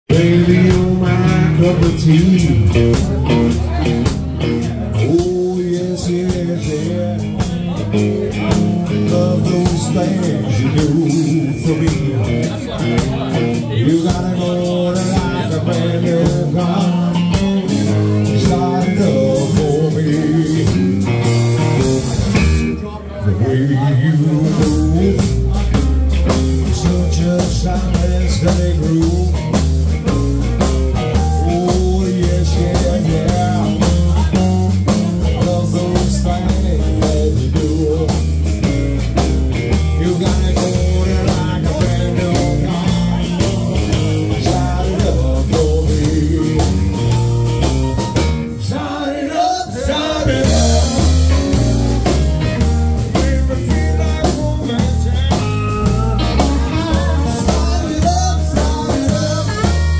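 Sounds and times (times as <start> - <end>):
drums keeping steady beat: 0.0 - 22.9, 23.8 - 59.9
blues-rock band playing: 0.1 - 59.9.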